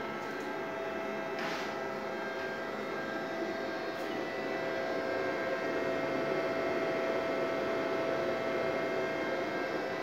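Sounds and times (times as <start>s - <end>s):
inverter electrical hum: 0.0s - 10.0s.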